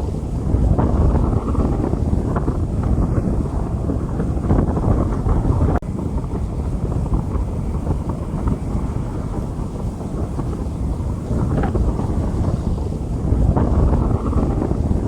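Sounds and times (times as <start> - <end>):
heavy low rumble: 0.0 - 15.0
rain hissing on street: 0.0 - 15.0.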